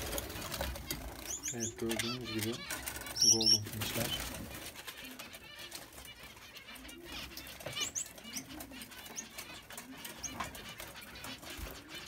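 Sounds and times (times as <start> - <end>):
birds rustling in cages: 0.0 - 12.0
finches chirping and twittering: 0.0 - 12.0.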